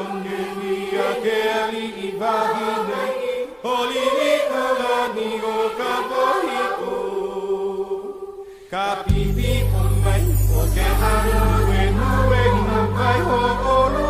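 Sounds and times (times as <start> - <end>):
song with chant-like vocals: 0.0 - 14.0.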